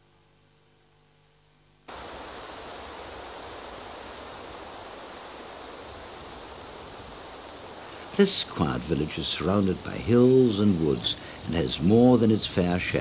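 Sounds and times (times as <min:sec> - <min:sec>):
faint electrical hum: 0:00.0 - 0:13.0
loud steady rushing noise: 0:01.9 - 0:13.0.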